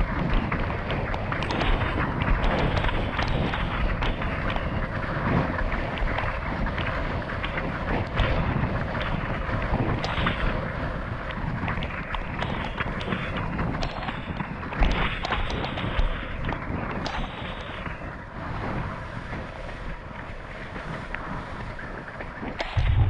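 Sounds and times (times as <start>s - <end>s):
hull slapping choppy water: 0.0s - 23.0s
wind buffeting microphone: 0.0s - 23.0s.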